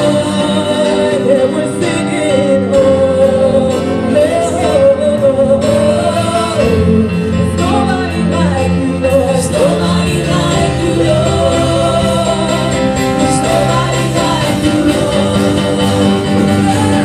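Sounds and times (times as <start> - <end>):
acoustic guitar: 0.0 - 17.0
held bass notes: 0.0 - 17.0
keyboard: 0.0 - 17.0
women's choir singing: 0.0 - 17.0.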